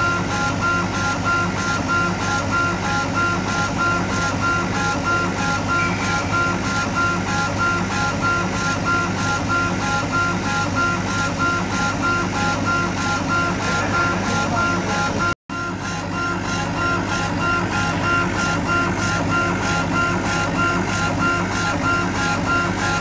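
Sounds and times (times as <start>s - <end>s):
laser engraver motors whining: 0.0s - 23.0s.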